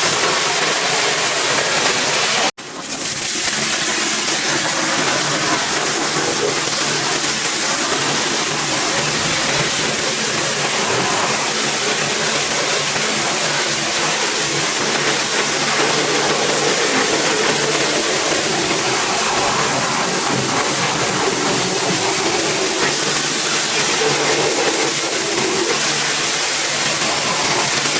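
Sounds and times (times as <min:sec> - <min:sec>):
pressure washer water jet hissing: 0:00.0 - 0:27.9
pump motor humming: 0:00.0 - 0:27.9.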